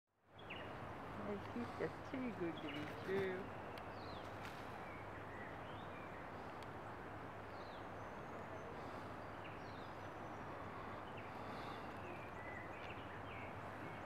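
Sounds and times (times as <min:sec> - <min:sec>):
outdoor background hush: 0:00.1 - 0:14.0
small birds chirping: 0:00.2 - 0:14.0.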